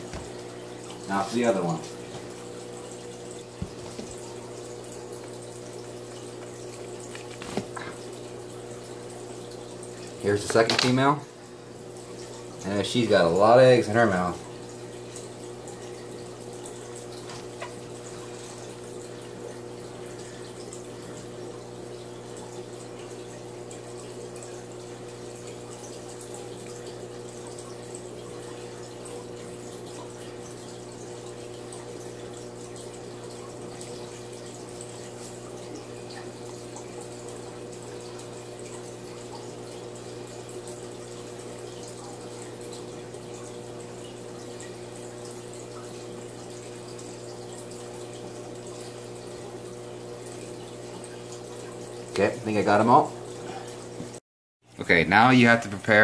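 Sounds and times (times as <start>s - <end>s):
small splashes in water tub: 0.0s - 54.2s
aquarium equipment humming: 0.0s - 56.0s
water trickling: 0.0s - 56.0s.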